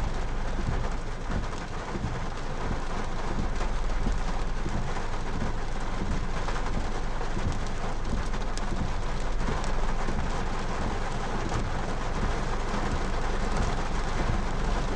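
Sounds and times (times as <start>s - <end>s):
rain hissing: 0.0s - 14.9s.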